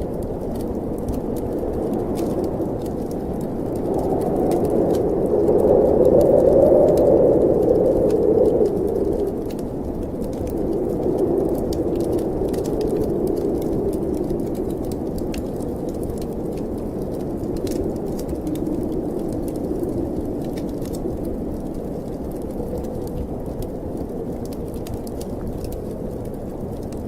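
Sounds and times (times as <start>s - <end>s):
fire crackling in fireplace: 0.0s - 27.0s
wind moaning: 0.0s - 27.0s.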